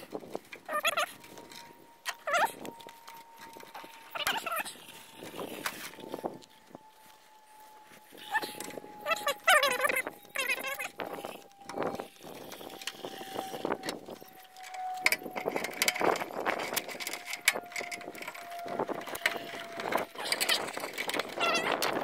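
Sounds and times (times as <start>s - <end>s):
faint steady tone: 0.0s - 22.0s.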